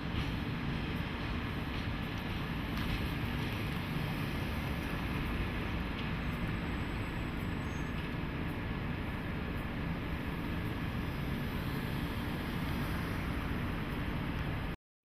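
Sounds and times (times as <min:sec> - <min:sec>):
diesel locomotive engine drone: 0:00.0 - 0:14.8
train running noise: 0:00.0 - 0:14.8.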